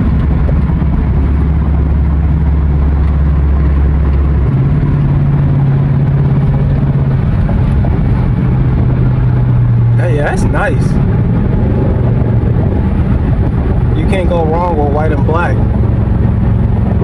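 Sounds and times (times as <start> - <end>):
car engine low exhaust drone: 0.0 - 17.0.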